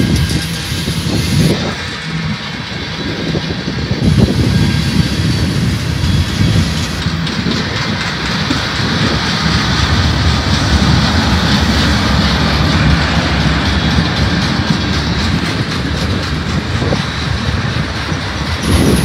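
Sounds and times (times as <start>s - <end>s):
steel train wheels on rails: 0.0s - 19.0s.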